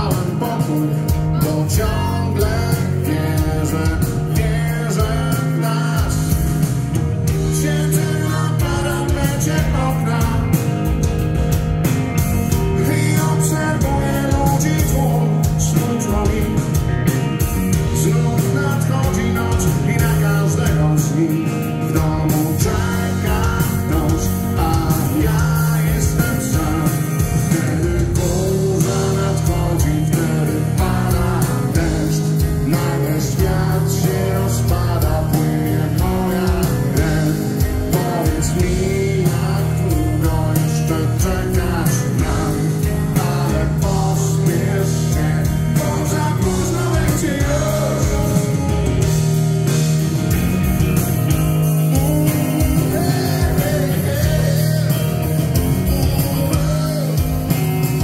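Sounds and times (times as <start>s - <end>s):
man singing: 0.0s - 11.4s, 12.2s - 49.3s, 51.5s - 58.0s
bass guitar: 0.0s - 58.0s
drum kit: 0.0s - 58.0s
electric guitars: 0.0s - 58.0s.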